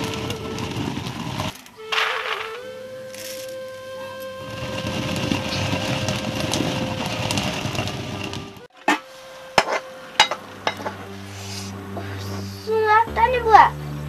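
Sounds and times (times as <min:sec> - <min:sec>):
stone quern grinding grain: 0:00.0 - 0:12.8.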